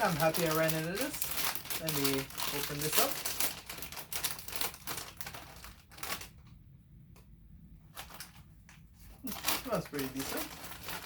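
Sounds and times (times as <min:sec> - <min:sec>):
plastic chip bag crinkling: 0:00.0 - 0:06.6, 0:07.9 - 0:11.0.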